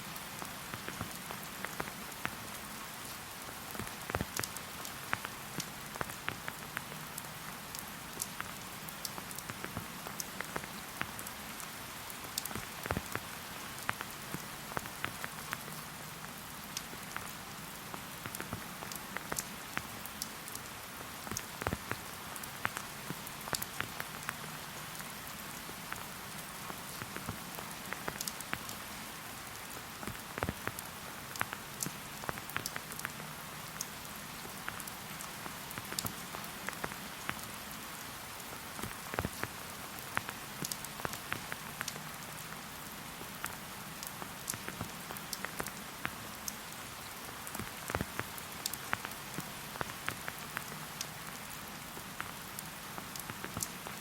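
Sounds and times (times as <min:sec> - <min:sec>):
rain hissing: 0:00.0 - 0:54.0
raindrops ticking: 0:00.1 - 0:54.0.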